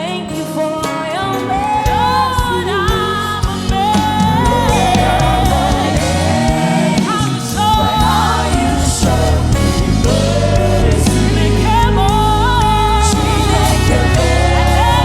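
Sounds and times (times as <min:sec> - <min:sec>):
gospel worship music: 0:00.0 - 0:15.0.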